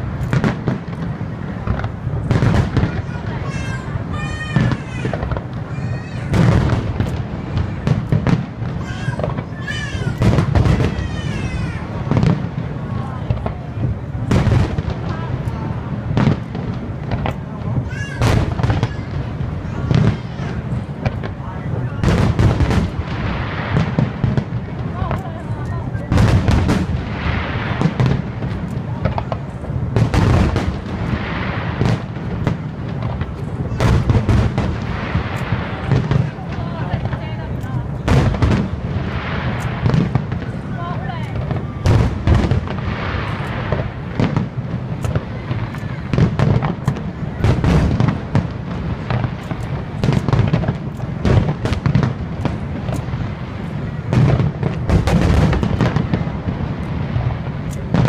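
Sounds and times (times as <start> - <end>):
firework shells bursting: 0.0 - 58.0
fireworks crackling: 0.0 - 58.0.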